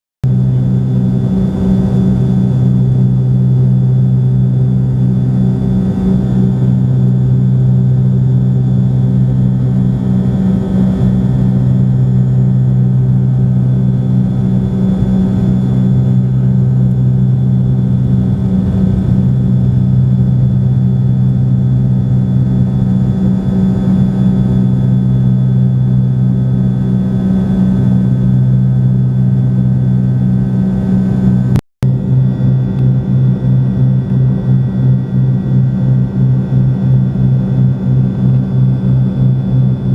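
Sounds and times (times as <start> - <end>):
airplane engines droning: 0.2 - 39.9.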